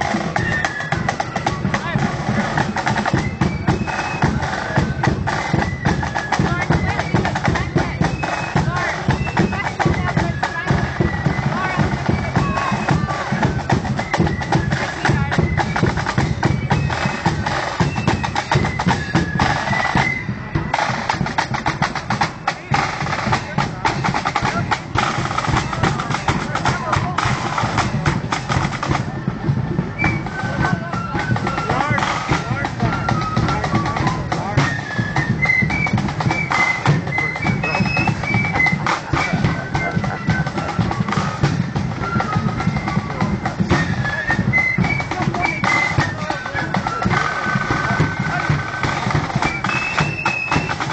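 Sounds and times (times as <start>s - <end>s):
flutes playing high tune: 0.0s - 50.9s
side drums and bass drum beat: 0.0s - 50.9s.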